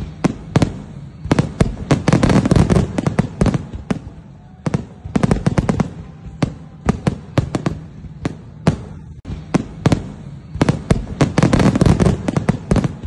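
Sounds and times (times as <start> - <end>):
sharp bangs and cracks: 0.0 - 13.0.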